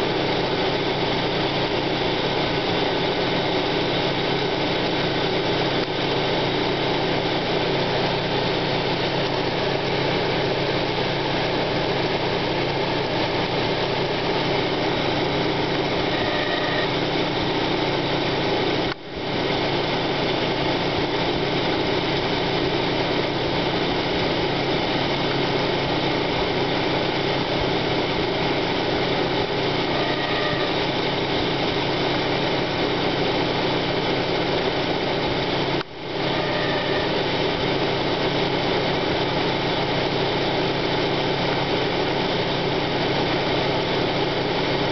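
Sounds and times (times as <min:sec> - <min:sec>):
car engine idling with grinding: 0:00.0 - 0:44.9.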